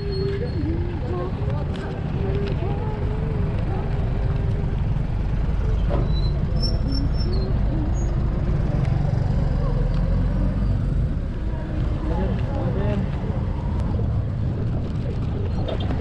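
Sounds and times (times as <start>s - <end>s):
muffled voices: 0.0s - 10.1s, 11.2s - 16.0s
low engine rumble: 0.0s - 16.0s.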